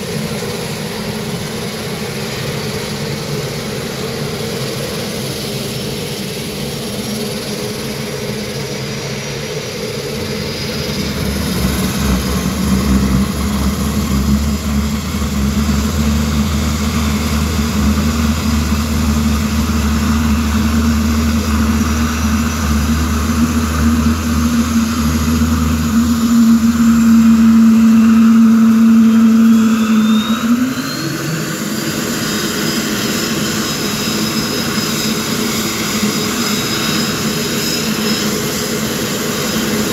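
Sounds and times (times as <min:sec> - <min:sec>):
high engine whine: 0:00.0 - 0:39.9
turboprop engines droning: 0:00.0 - 0:39.9.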